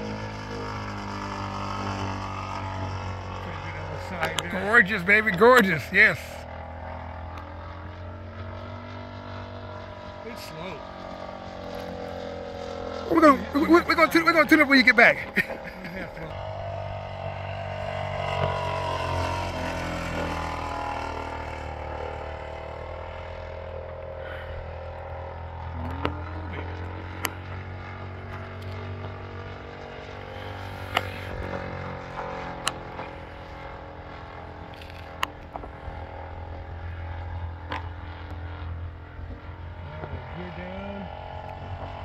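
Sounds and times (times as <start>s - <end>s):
model plane engine droning: 0.0s - 42.0s.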